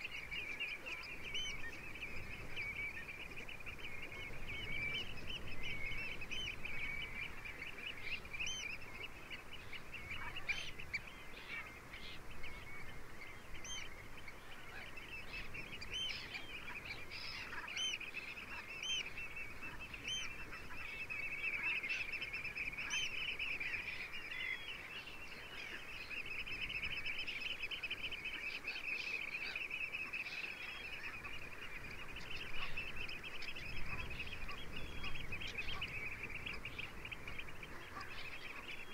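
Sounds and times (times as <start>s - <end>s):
flock of geese calling: 0.0s - 38.9s.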